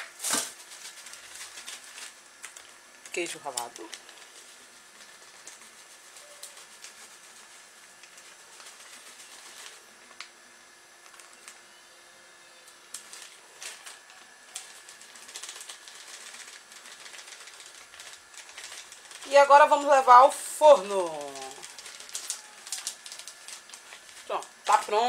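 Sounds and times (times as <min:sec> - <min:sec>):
plastic packet crinkling: 0:00.0 - 0:10.3, 0:11.0 - 0:11.6, 0:12.9 - 0:25.0.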